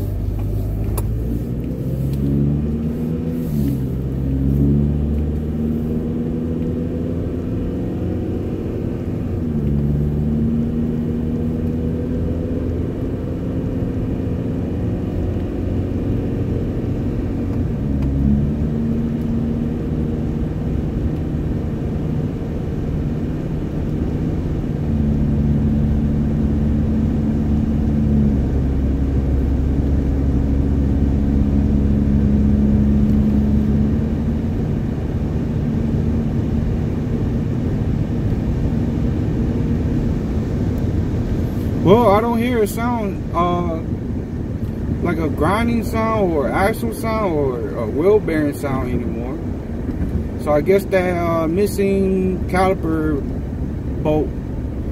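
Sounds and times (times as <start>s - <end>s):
car engine hum and road noise: 0.0s - 54.9s.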